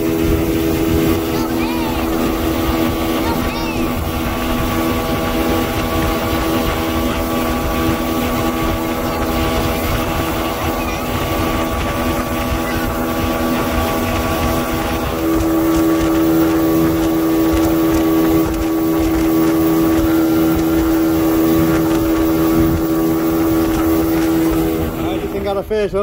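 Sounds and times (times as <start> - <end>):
outboard motor running: 0.0 - 26.0
rush of wind and water spray: 0.0 - 26.0.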